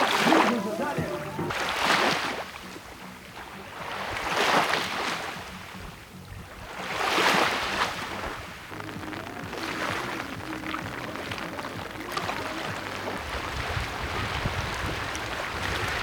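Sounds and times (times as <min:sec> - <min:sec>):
lake waves washing up a beach: 0:00.0 - 0:16.0.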